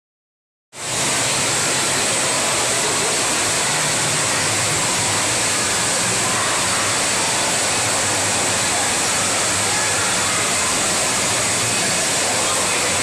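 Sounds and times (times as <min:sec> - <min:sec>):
rushing water: 0:00.8 - 0:13.0.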